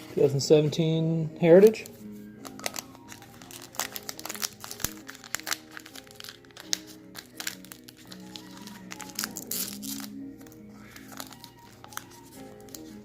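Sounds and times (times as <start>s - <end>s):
background music: 0.0s - 13.0s
foil wrapper crinkling: 2.4s - 13.0s.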